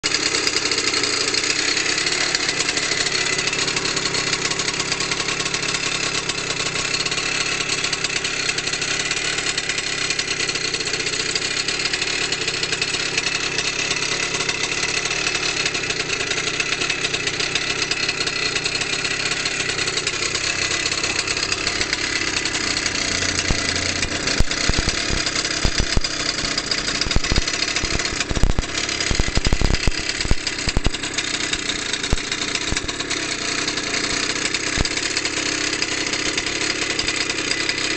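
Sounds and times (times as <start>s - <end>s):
minibike engine idling: 0.0s - 37.9s.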